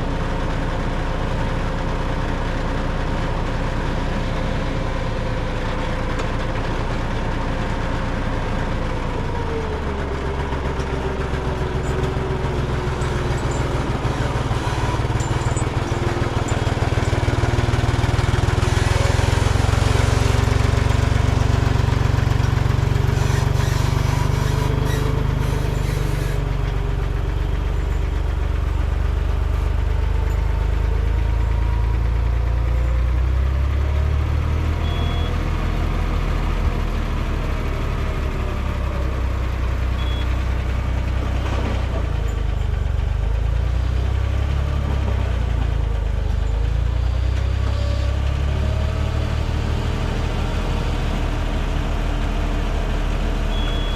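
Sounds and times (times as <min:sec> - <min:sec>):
heavy vehicle engine running: 0:00.0 - 0:53.9.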